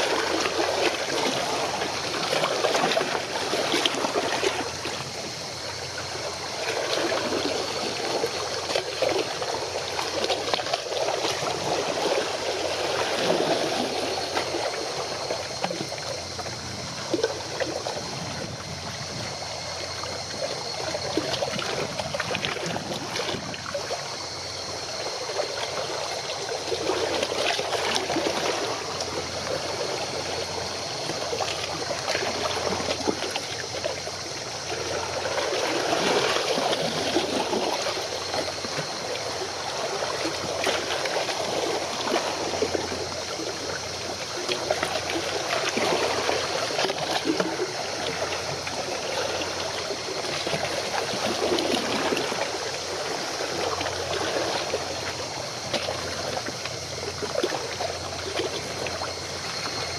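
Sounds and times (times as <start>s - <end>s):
water lapping against shore: 0.0s - 59.9s.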